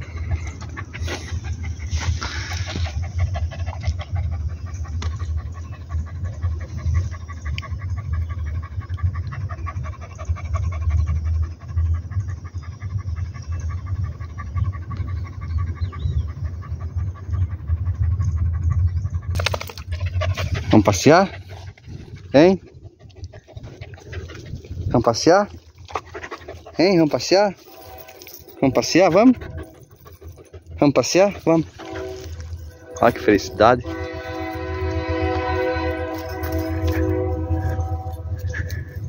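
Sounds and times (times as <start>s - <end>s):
dog panting: 0.0s - 39.0s
steady low rumble: 0.0s - 39.0s.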